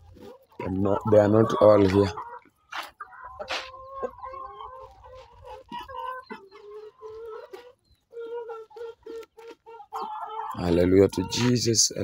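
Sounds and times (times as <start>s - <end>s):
chickens clucking: 0.0s - 12.0s
drawn-out chicken calls: 0.0s - 12.0s.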